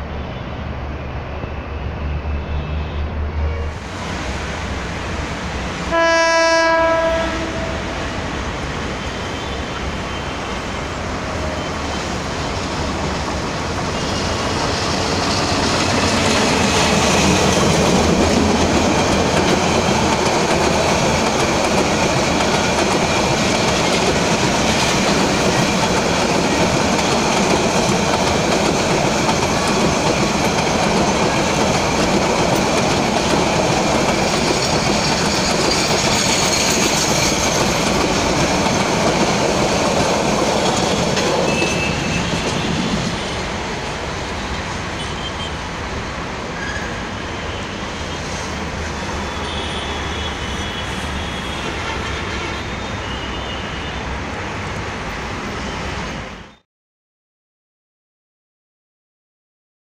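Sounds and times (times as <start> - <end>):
train wheels rushing on rails: 3.6 - 56.4.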